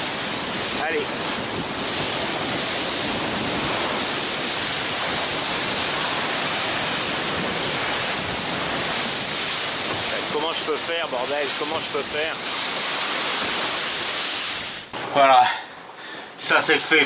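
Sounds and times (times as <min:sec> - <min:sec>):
seawater rushing along hull: 0:00.0 - 0:17.0.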